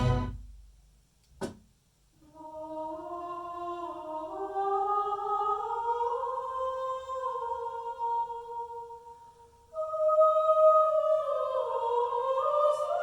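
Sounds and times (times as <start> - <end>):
vocal ensemble music on loudspeakers: 0.0 - 0.4, 2.3 - 13.0.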